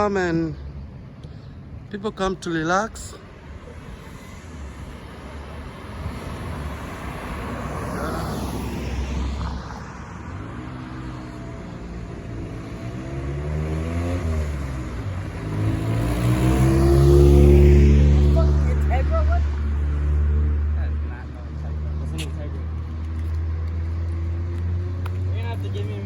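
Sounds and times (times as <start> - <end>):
cars passing by: 0.0 - 26.0.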